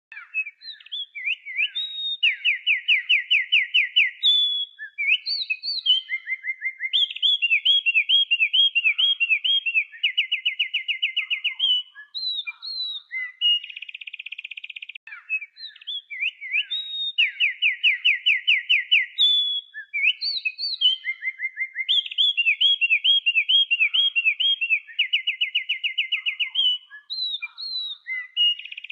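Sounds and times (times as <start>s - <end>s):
songbird singing: 0.1s - 28.9s.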